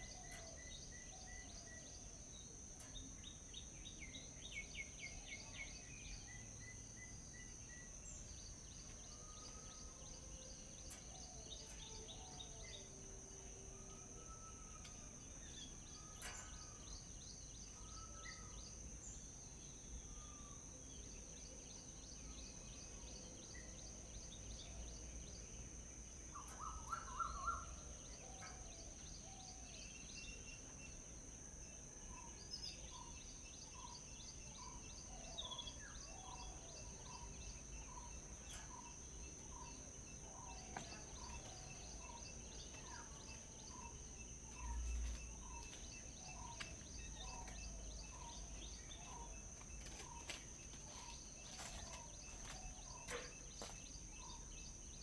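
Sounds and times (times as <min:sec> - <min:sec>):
birds chirping and singing: 0:00.0 - 0:31.3, 0:32.0 - 0:55.0
high insect drone: 0:00.0 - 0:55.0.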